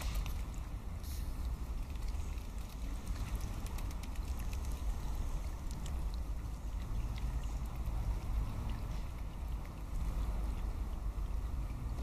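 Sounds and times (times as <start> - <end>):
birds dabbling and splashing: 0.0 - 12.0
faint water sounds: 0.0 - 12.0.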